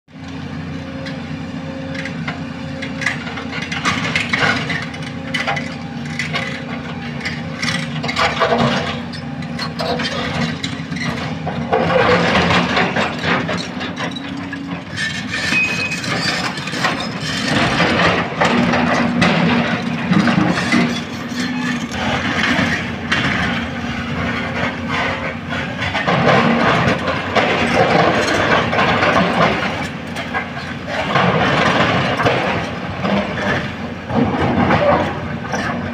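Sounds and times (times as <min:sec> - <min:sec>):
excavator diesel engine running: 0:00.1 - 0:35.9.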